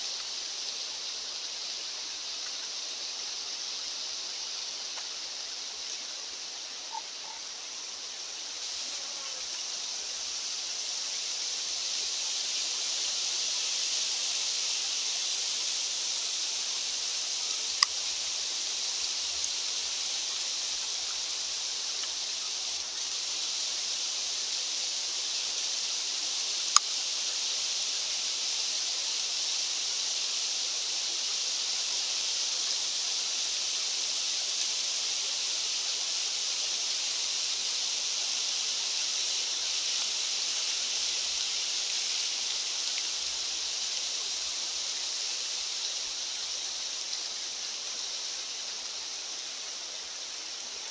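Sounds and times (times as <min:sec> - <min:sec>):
wind hissing: 0:00.0 - 0:50.7.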